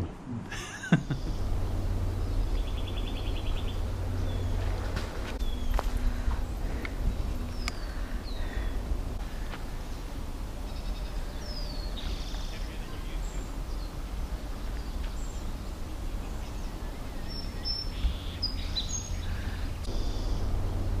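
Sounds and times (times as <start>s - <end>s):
steady low rumble: 0.0s - 21.0s
high bird chirps: 1.0s - 20.8s.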